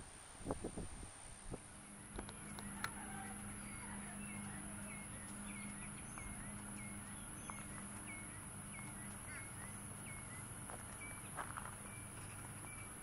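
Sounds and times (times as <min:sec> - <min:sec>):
bird chirping: 0:01.8 - 0:13.0.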